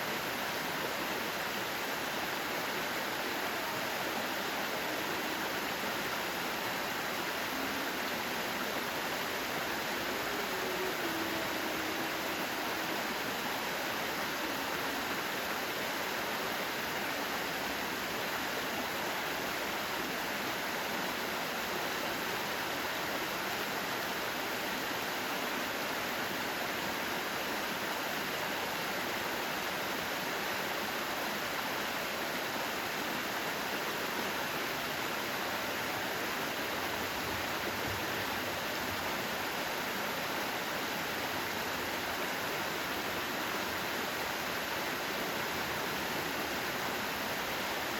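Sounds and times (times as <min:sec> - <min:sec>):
stream flowing: 0:00.0 - 0:47.9.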